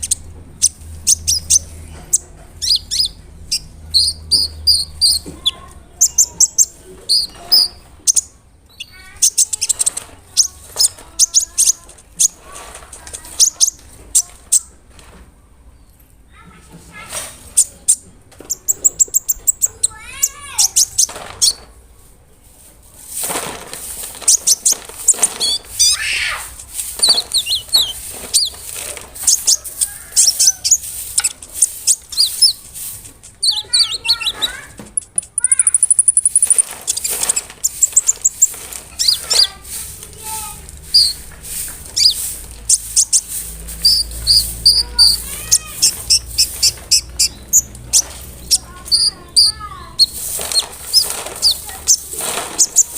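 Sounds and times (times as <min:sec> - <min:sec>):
sunbird singing chattering song: 0:00.0 - 0:14.8, 0:17.5 - 0:21.6, 0:24.3 - 0:52.9.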